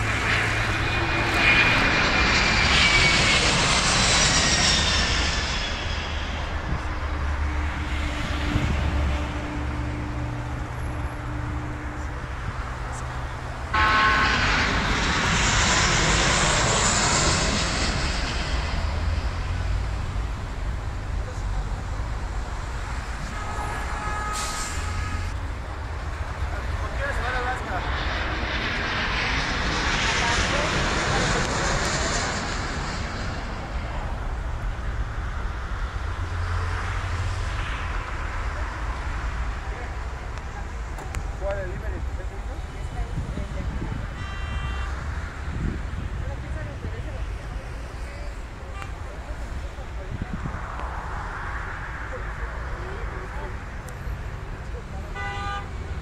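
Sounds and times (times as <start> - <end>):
jet airliner engines roaring: 0.0 - 56.0
road traffic noise: 0.0 - 56.0.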